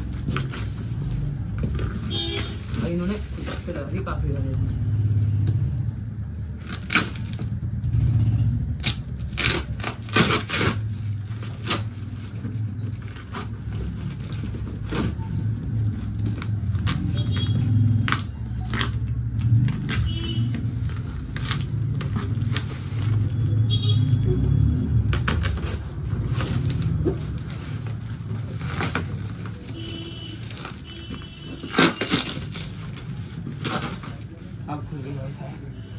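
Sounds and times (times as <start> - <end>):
plastic wrap crinkling and tearing: 0.0 - 4.5, 5.6 - 7.8, 8.7 - 23.7, 25.1 - 35.4.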